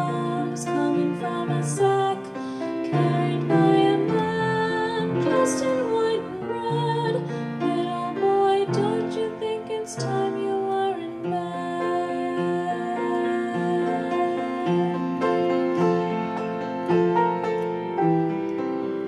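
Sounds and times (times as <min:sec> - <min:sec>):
woman singing: 0:00.0 - 0:15.9
piano chords: 0:00.0 - 0:19.0.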